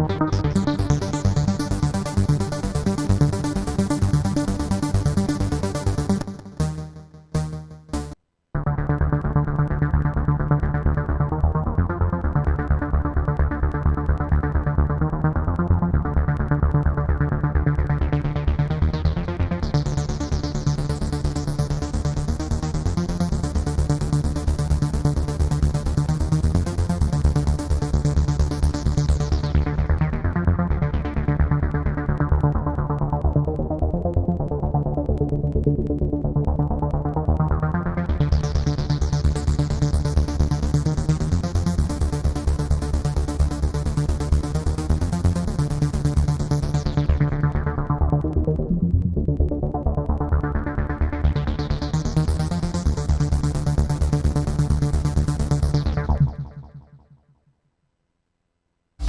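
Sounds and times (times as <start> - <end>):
synthesizer repeated notes with bass: 0.0 - 56.6.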